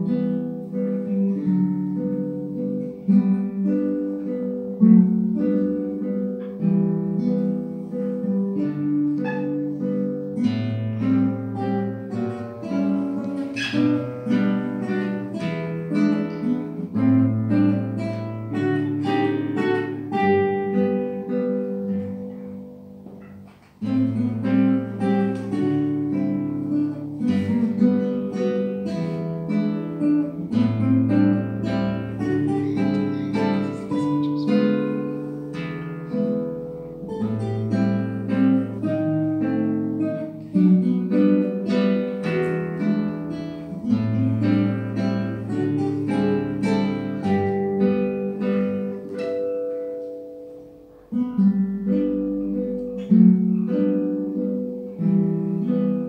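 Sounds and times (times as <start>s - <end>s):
classical guitar duet: 0.0s - 56.0s.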